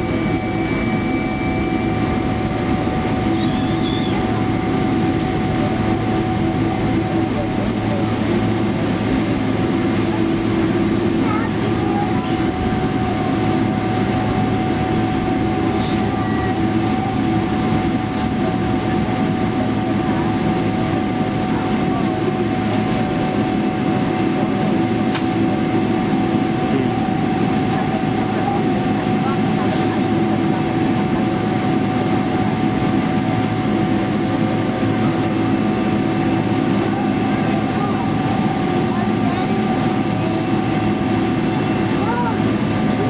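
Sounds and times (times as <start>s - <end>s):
rumble of engines and wheels: 0.0s - 43.0s
thin steady whine: 0.0s - 43.0s.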